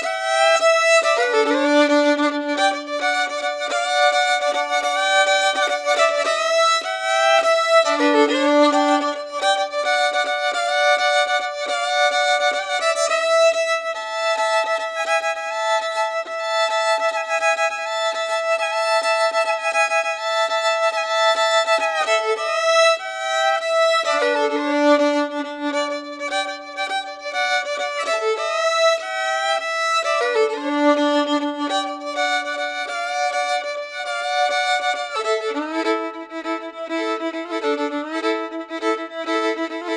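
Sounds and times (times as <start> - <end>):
slow violin music: 0.0 - 39.9.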